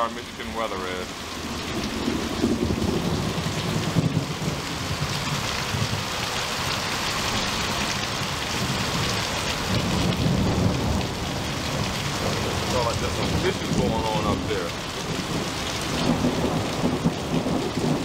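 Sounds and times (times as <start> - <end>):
heavy rain pouring: 0.0 - 18.0
thunder rumbling: 1.3 - 18.0.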